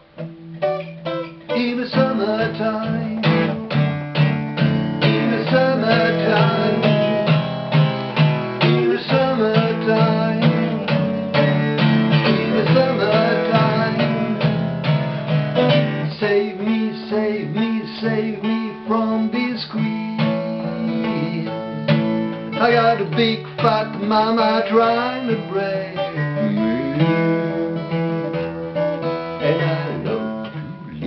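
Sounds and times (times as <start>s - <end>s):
acoustic guitar strumming: 0.0s - 31.0s
man singing: 1.4s - 3.7s, 5.0s - 7.4s, 8.6s - 14.7s, 16.0s - 28.7s, 29.4s - 31.0s.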